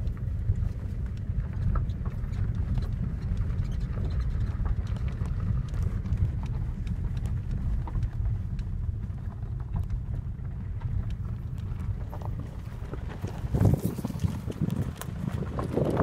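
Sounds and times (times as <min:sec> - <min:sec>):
car engine and tyres rumbling: 0:00.0 - 0:16.0
wheels knocking over ruts: 0:00.0 - 0:16.0.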